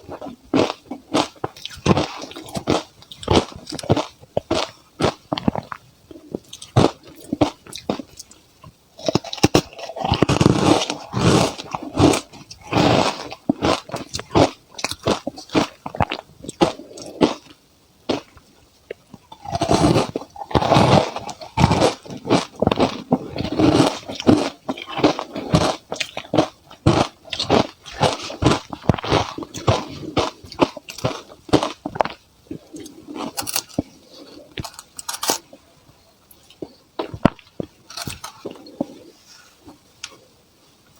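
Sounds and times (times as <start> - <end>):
ice crunching between teeth: 0.0 - 5.8, 9.0 - 35.5, 36.4 - 39.1.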